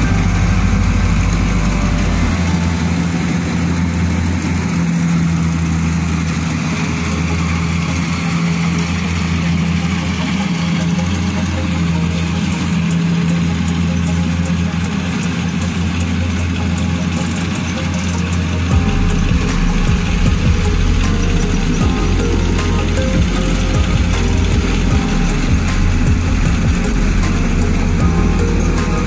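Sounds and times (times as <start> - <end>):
combine harvester diesel engine: 0.0 - 29.0.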